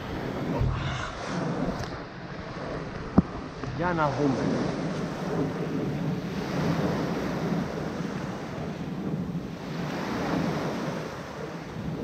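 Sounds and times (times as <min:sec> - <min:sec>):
sea waves on shore: 0:00.0 - 0:12.0
wind buffeting microphone: 0:00.0 - 0:12.0.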